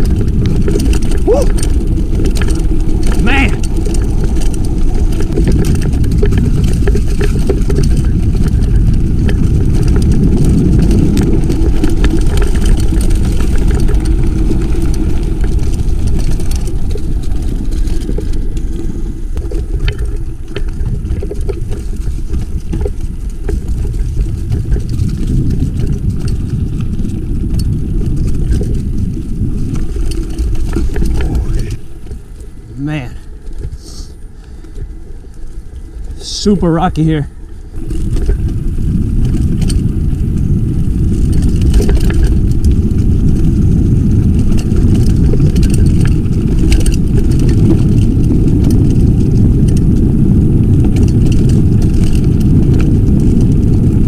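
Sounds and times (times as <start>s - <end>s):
bike rattling and knocking: 0.0s - 54.0s
mountain bike rumbling over rocks: 0.0s - 54.0s.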